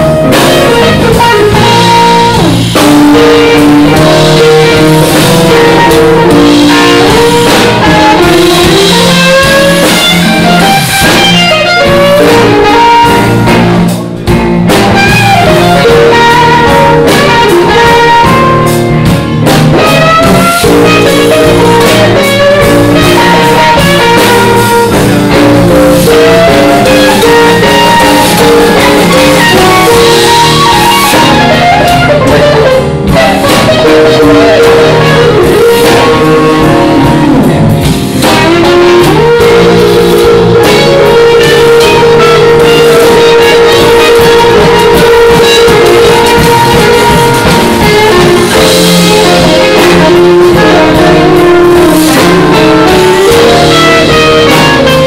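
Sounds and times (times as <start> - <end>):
bending lead guitar notes: 0.0 - 55.0
drums: 0.0 - 55.0
live blues band: 0.0 - 55.0.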